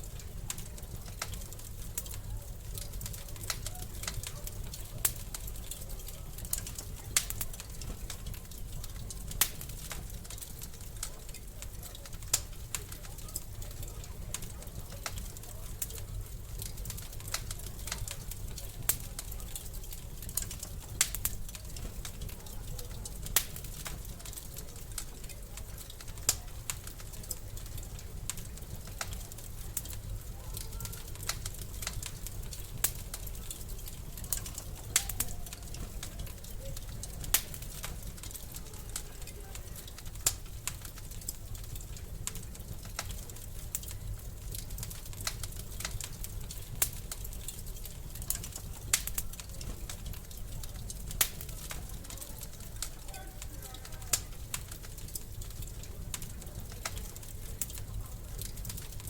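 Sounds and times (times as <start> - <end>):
sharp pops from burning logs: 0.0 - 59.0
wood fire crackling: 0.0 - 59.0.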